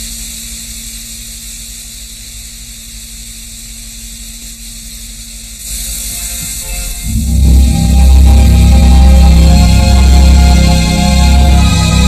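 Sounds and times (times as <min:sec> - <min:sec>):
low electrical hum: 0:00.0 - 0:12.0
tape hiss: 0:00.0 - 0:12.0.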